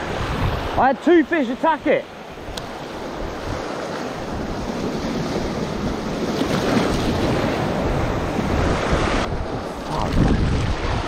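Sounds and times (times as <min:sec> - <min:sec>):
wind buffeting microphone: 0:00.0 - 0:00.8, 0:02.3 - 0:11.0
sea surf breaking over rocks: 0:00.0 - 0:11.0.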